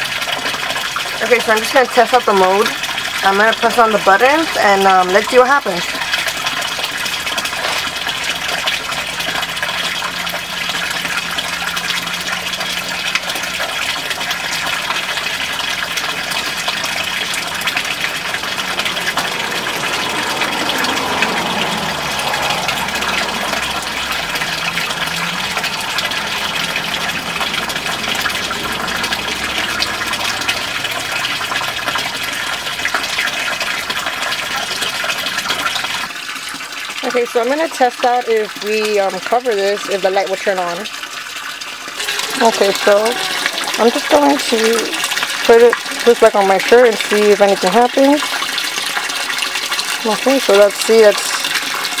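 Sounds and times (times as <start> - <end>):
water splashing into pond: 0.0 - 52.0.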